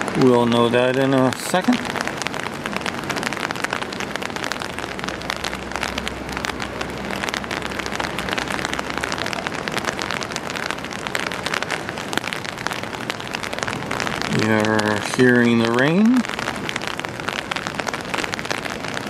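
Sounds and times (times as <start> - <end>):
rain pattering on an umbrella: 0.0 - 19.0.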